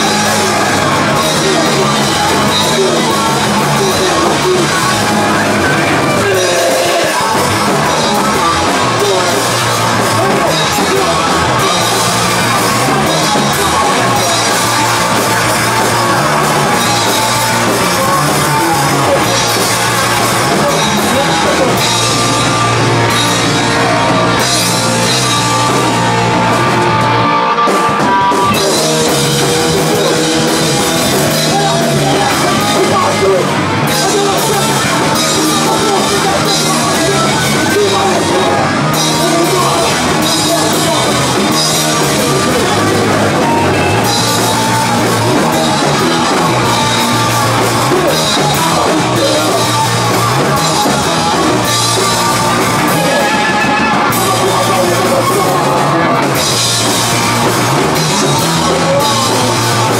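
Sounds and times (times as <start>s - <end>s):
drum kit with cymbals: 0.0s - 59.9s
electric guitar: 0.0s - 59.9s.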